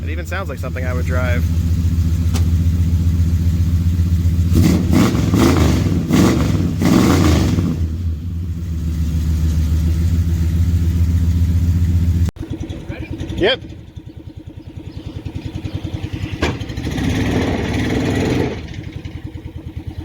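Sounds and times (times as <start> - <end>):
engine idling with throttle blips: 0.0 - 20.0.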